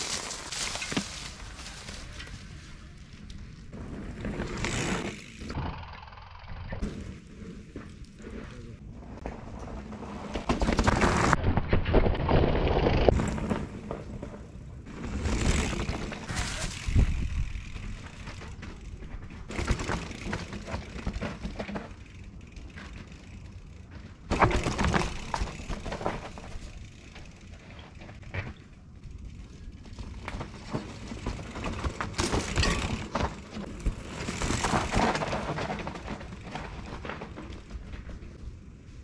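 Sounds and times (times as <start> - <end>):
bike tyres crunching leaves and stones: 0.0 - 5.6, 6.8 - 39.0.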